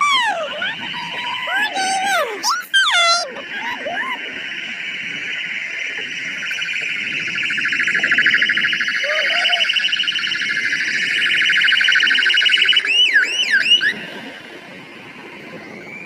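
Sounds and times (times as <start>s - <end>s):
electronic siren: 0.0s - 16.0s.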